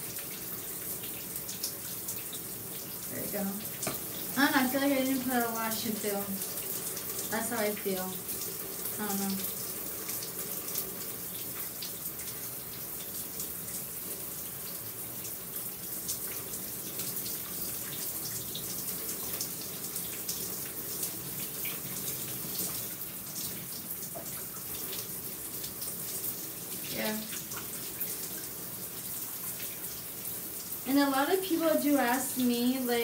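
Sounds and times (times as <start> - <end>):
shower spray pattering: 0.0 - 13.6, 16.0 - 33.0.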